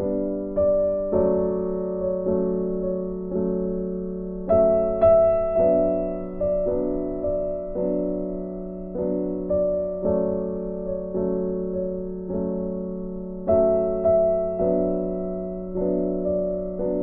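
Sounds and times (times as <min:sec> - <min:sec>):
soft keyboard music: 0:00.0 - 0:17.0.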